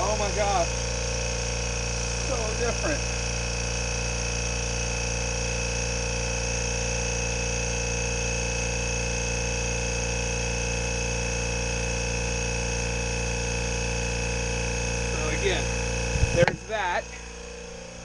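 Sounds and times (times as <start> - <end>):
air compressor running: 0.0 - 18.0.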